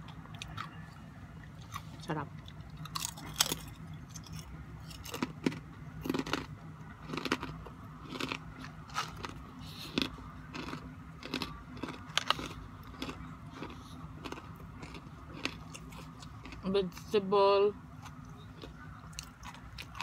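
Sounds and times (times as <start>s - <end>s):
chewing crunchy chips: 0.0s - 17.1s, 18.0s - 20.0s.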